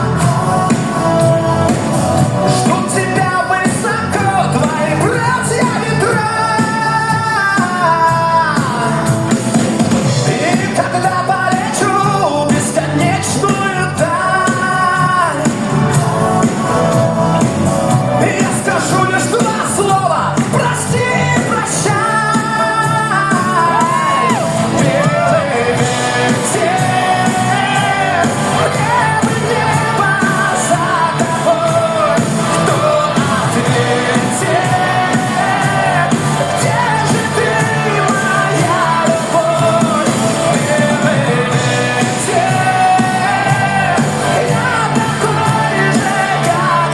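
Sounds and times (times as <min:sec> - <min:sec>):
full band accompaniment: 0:00.0 - 0:46.9
man singing with vibrato: 0:00.0 - 0:46.9.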